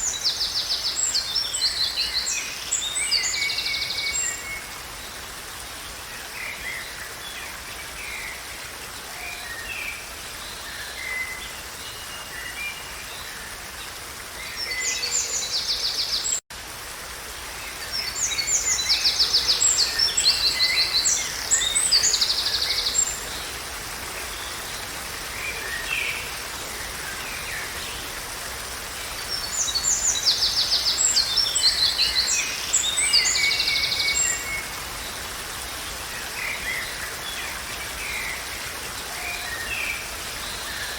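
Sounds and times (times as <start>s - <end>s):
outdoor background hiss: 0.0s - 40.9s.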